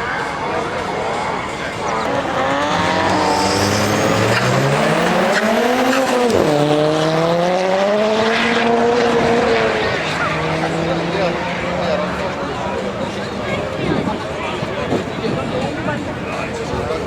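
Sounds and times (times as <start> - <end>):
car engine revving hard: 0.1 - 14.0.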